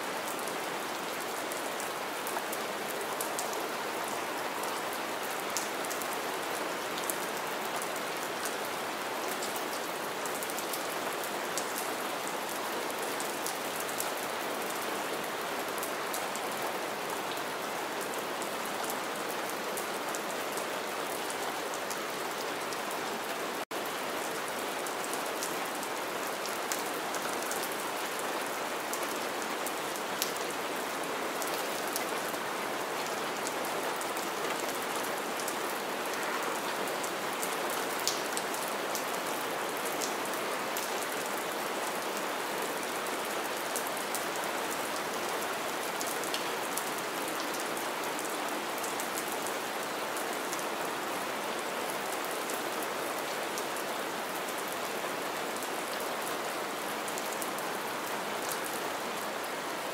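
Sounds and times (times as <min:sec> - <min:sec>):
rain on wet ground: 0:00.0 - 0:59.9.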